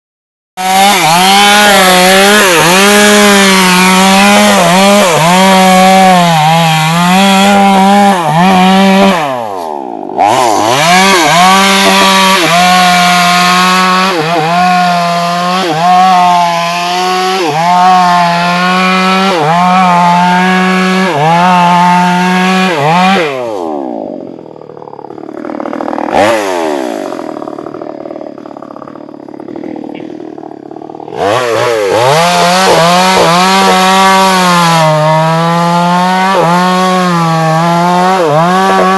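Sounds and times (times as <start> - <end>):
chainsaw cutting tree trunk: 0.6 - 38.9.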